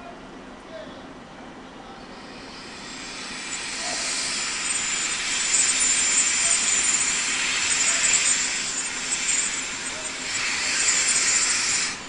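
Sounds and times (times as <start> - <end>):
train rolling noise: 1.5 - 12.0
high wheel squeal: 2.1 - 12.0.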